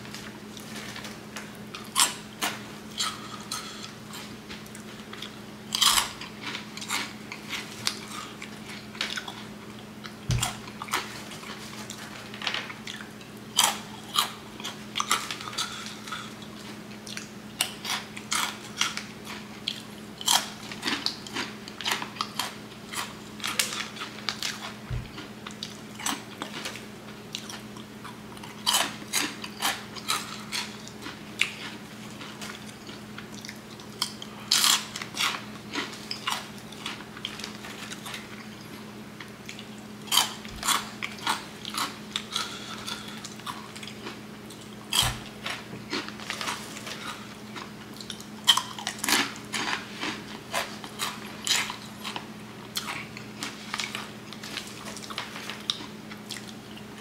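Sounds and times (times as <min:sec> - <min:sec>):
crunching and chewing snacks: 0:00.1 - 0:57.0.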